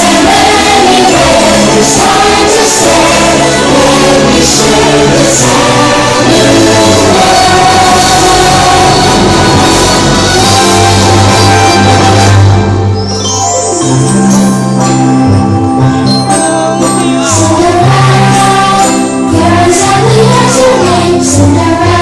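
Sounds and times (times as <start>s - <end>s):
orchestral music with choir singing: 0.0s - 22.0s.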